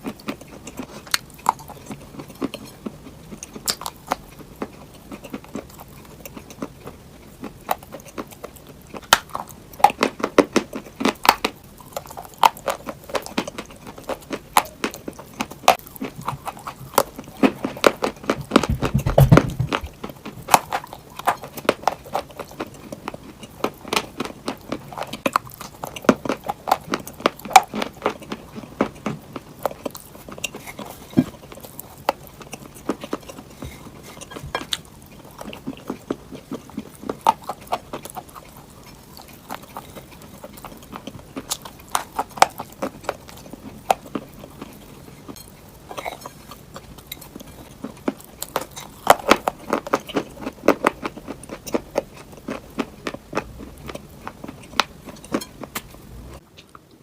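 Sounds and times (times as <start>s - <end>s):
chalk crunching being chewed: 0.0s - 19.0s, 19.7s - 56.9s.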